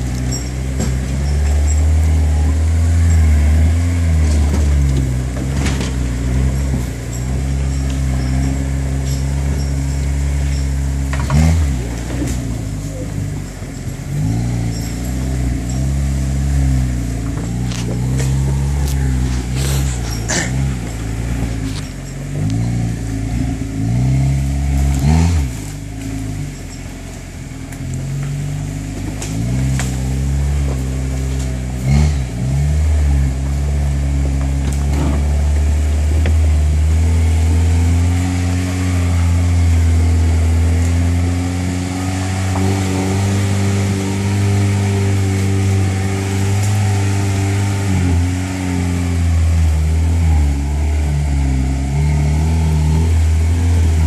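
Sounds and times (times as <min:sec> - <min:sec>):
engine pulling at low revs: 0:00.0 - 0:54.0.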